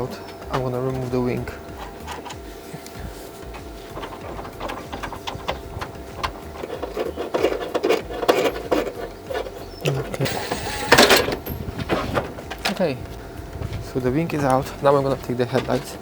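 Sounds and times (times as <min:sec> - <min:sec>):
tools clicking and rattling: 0:00.0 - 0:16.0.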